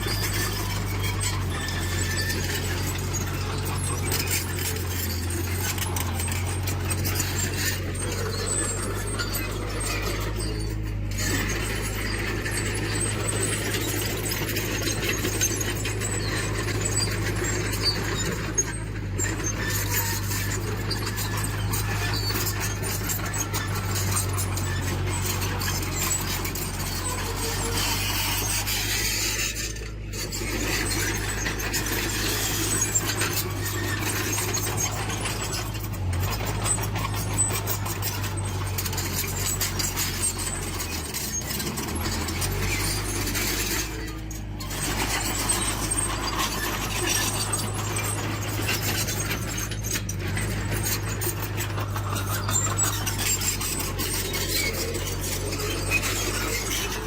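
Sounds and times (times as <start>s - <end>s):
diesel engine running: 0.0s - 57.0s
machinery scraping and grinding: 0.0s - 57.0s.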